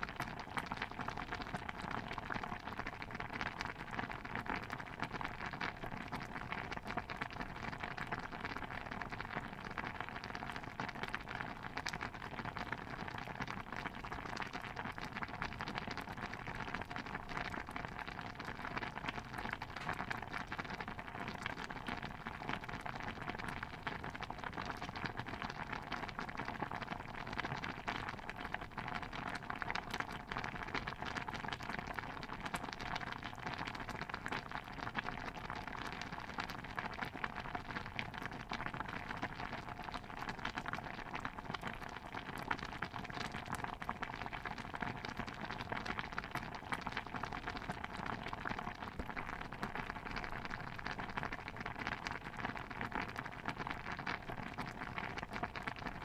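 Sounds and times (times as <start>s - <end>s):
stew bubbling in a pot: 0.0s - 56.0s.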